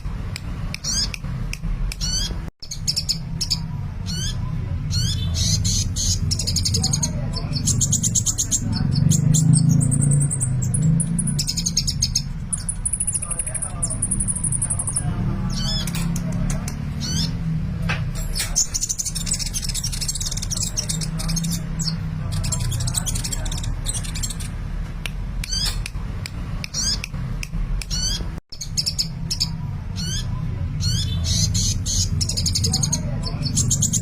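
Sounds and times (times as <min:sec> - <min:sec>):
bird chirping and trilling: 0:00.7 - 0:24.7, 0:25.4 - 0:26.0, 0:26.6 - 0:34.0.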